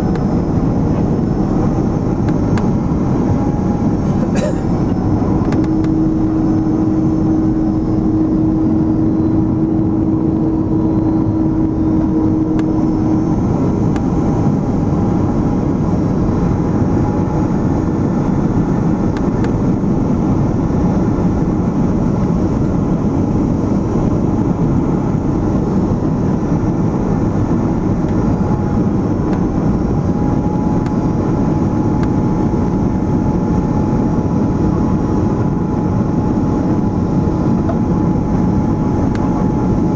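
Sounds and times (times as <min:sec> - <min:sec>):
rush of jet engines and airflow: 0:00.0 - 0:39.9
steady hum: 0:00.0 - 0:39.9.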